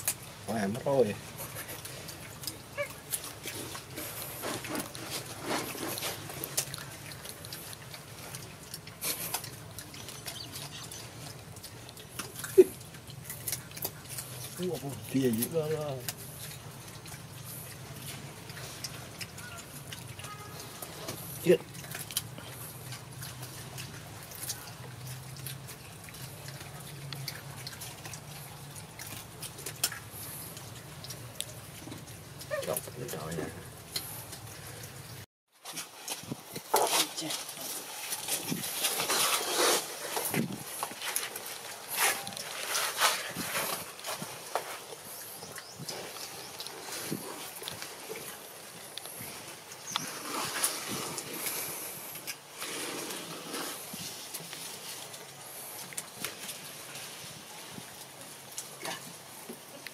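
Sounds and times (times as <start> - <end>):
monkeys chewing food: 0.0 - 59.9.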